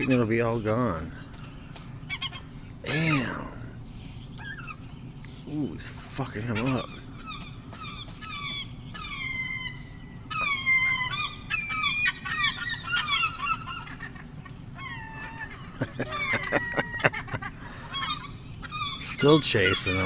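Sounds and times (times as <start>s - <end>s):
gulls squawking: 0.0s - 20.0s.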